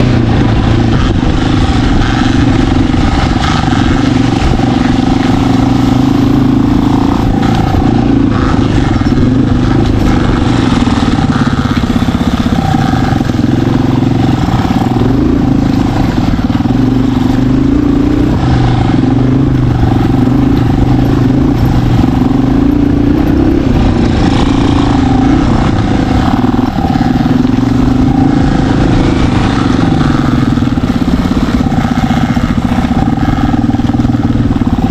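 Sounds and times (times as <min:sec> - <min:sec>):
off-road vehicle engine running: 0:00.0 - 0:34.9.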